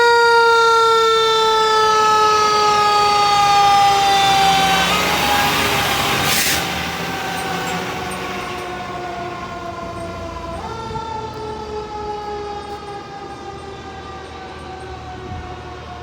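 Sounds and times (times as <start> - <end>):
fire truck siren wailing: 0.0 - 16.0.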